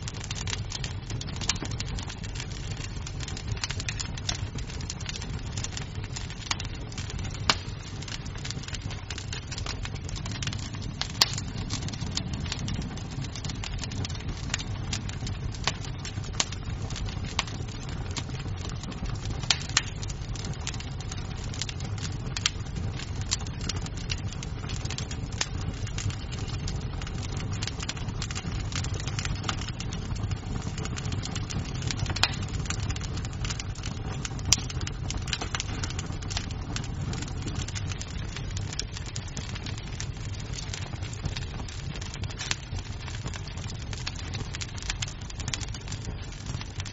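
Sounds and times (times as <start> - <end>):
low rumble of flames: 0.0 - 46.9
wood fire crackling: 0.0 - 46.9.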